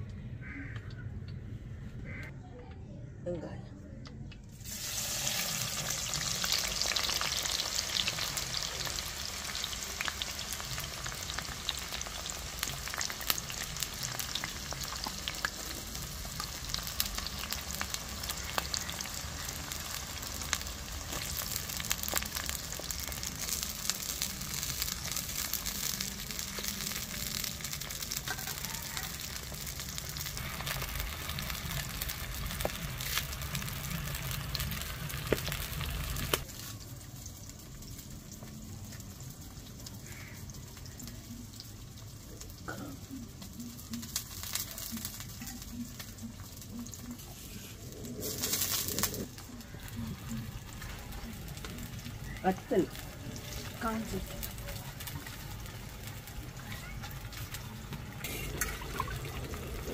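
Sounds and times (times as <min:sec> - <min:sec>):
oil popping and crackling: 0:04.3 - 0:59.9
onions sizzling in hot oil: 0:04.6 - 0:59.9.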